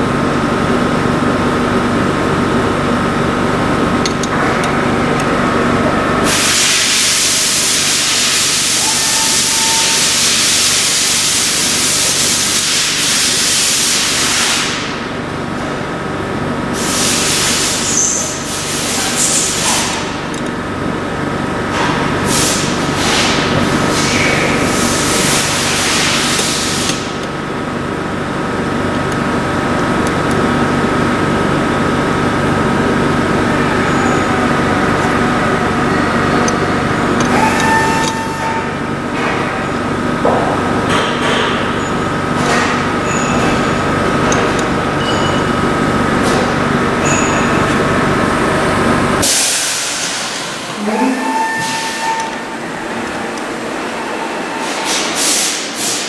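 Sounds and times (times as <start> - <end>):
grinding machine hum and whine: 0.0 - 56.0.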